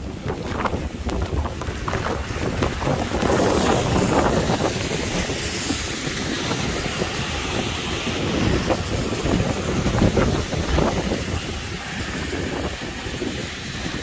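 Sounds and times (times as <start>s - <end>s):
heavy rain hissing: 0.0s - 14.0s
surf washing: 0.0s - 14.0s
wind gusting across microphone: 0.0s - 14.0s.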